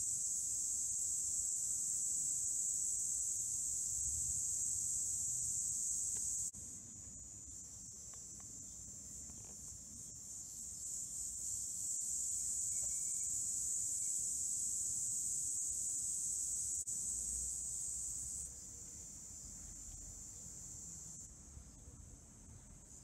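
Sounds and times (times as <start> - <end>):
high-pitched hiss: 0.0 - 23.0.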